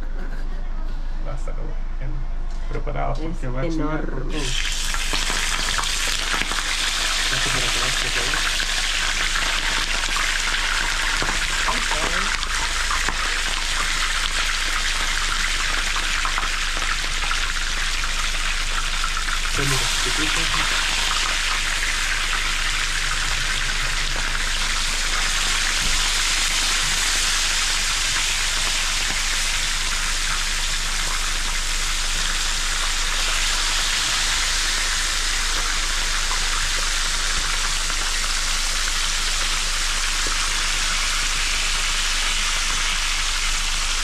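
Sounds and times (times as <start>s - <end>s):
fish sizzling in oil: 4.4s - 44.0s.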